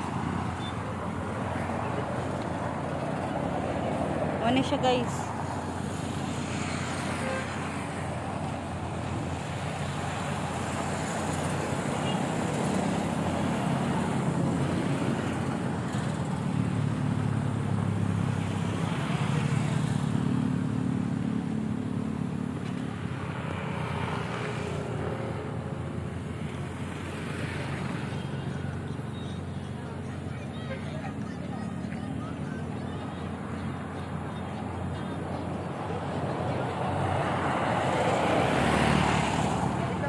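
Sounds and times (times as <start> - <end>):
motor vehicle engines running: 0.0 - 40.0.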